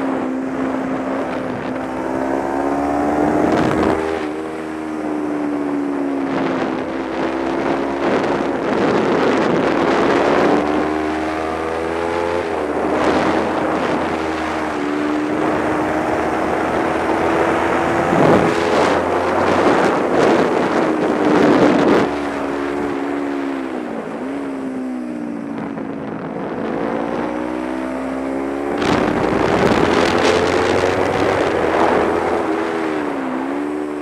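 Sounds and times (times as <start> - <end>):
motorcycle engine revving: 0.0 - 34.0
wind rushing over microphone: 0.0 - 34.0.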